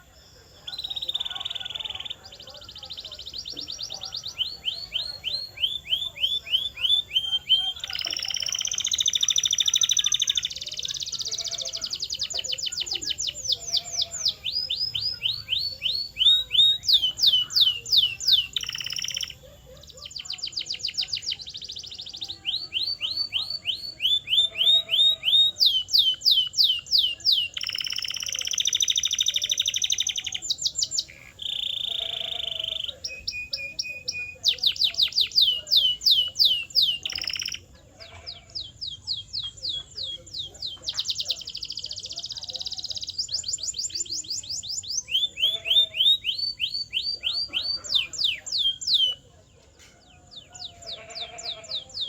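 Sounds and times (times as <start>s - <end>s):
canary singing: 0.0s - 52.0s.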